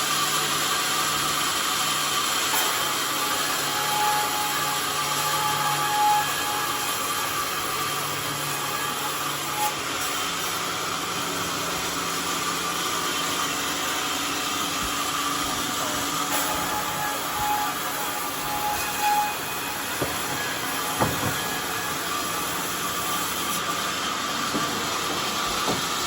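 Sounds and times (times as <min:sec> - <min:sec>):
sawmill running: 0:00.0 - 0:26.0.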